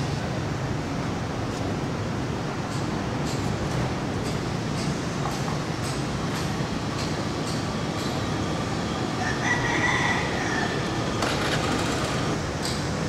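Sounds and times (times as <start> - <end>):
street and vehicle noise: 0.0 - 13.0.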